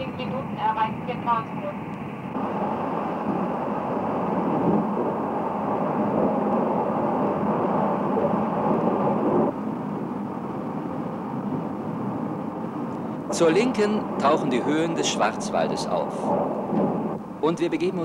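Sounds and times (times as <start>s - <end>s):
passenger train wheels rolling: 0.0s - 18.0s.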